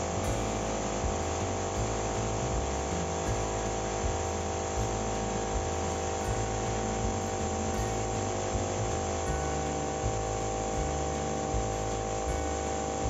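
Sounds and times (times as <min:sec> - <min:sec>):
air compressor motor hum: 0:00.0 - 0:13.0.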